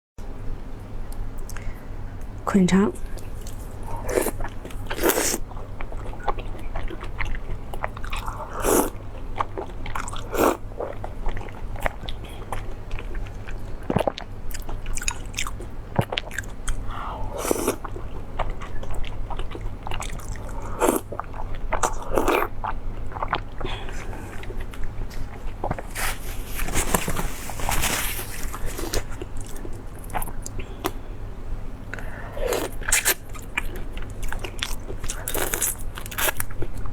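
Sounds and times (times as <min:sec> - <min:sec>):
person chewing crunchy food: 0:03.1 - 0:31.0, 0:32.0 - 0:36.9.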